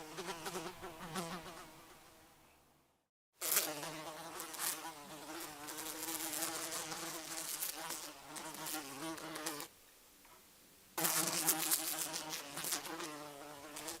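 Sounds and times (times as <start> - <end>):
fly buzzing: 0.0 - 2.2, 3.4 - 9.7, 11.0 - 14.0.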